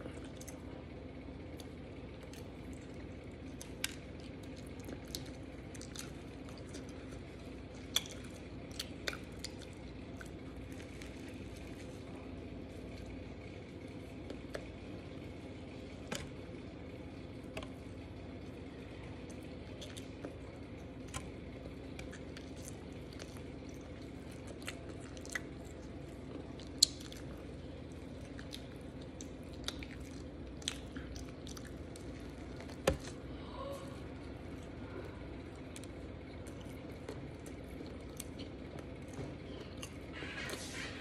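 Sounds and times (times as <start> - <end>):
wet chewing and lip-smacking: 1.4 - 14.8, 19.1 - 33.2, 34.4 - 40.7.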